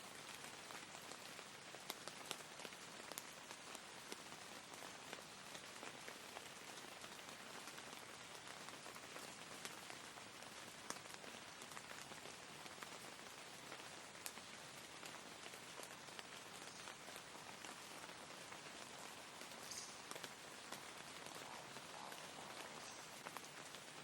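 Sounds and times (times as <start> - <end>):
steady rain falling: 0.0 - 24.0
raindrop ticks: 0.2 - 24.0.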